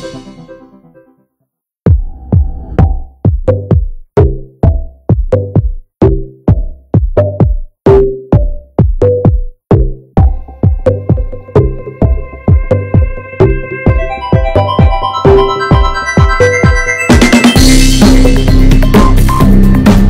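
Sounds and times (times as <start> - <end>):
electronic music: 0.0 - 1.3, 1.9 - 20.0
drum-machine beat: 1.9 - 20.0.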